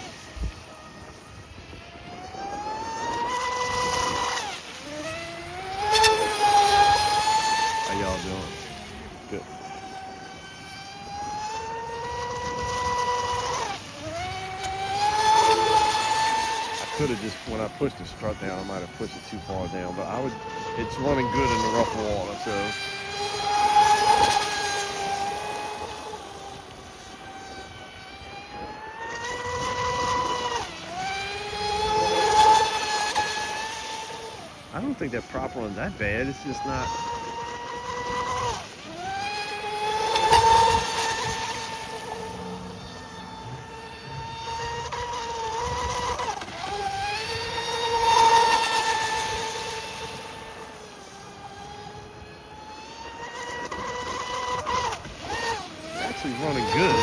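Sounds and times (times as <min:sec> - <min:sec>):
choppy water: 0:00.0 - 0:57.0
speedboat motor whine: 0:00.0 - 0:57.0.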